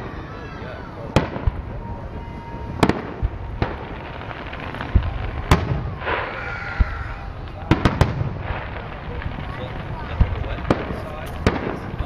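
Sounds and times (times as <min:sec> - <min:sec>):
distant fireworks bangs: 0:00.0 - 0:12.0
hissing crackle: 0:00.0 - 0:12.0.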